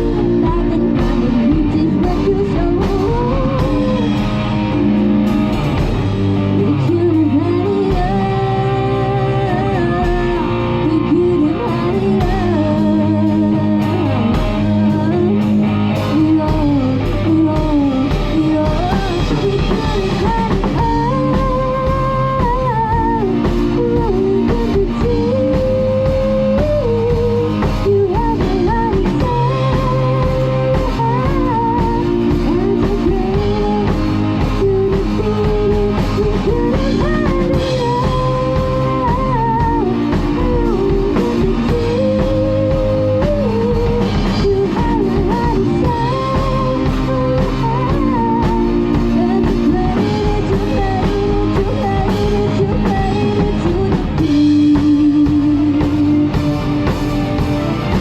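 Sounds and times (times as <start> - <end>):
pop song with woman singing: 0.0 - 4.6, 6.4 - 58.0
drum kit playing: 0.0 - 58.0.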